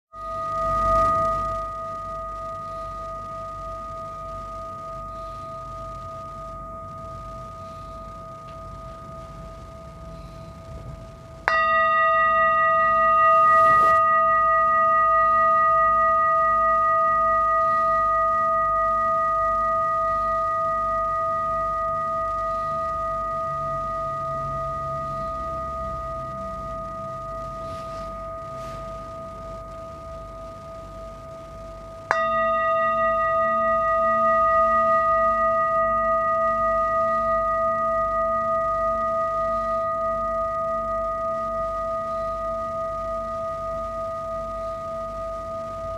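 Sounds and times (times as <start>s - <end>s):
low wavering tone: 0.0s - 45.9s
singing bowl ringing: 0.1s - 45.9s.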